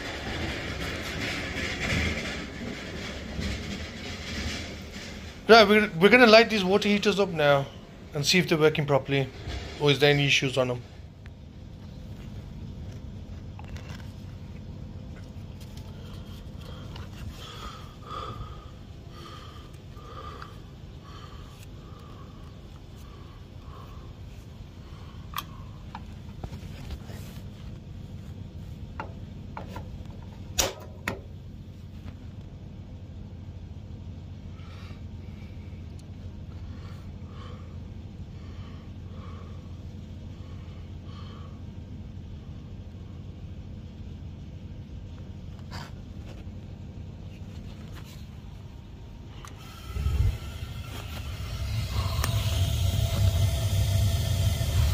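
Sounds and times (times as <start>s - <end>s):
gas water heater humming: 0.0s - 54.9s.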